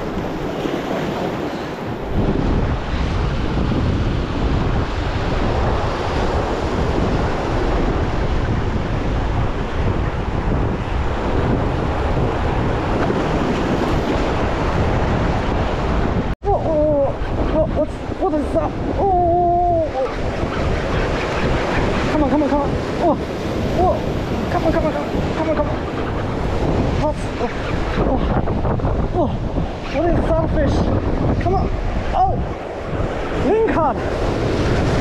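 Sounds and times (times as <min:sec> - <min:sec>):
surf washing over boulders: 0:00.0 - 0:35.0
wind buffeting microphone: 0:00.0 - 0:35.0.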